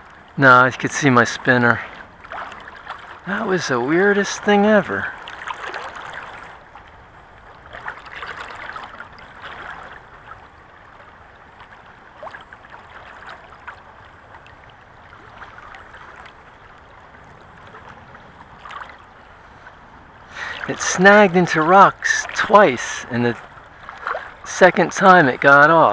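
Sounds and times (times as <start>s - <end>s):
stream running over rocks: 0.0s - 25.9s.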